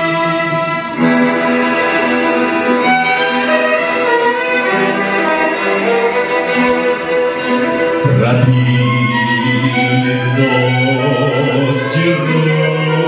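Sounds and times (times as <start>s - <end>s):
bowed string accompaniment: 0.0s - 13.0s
violin melody: 0.0s - 13.0s.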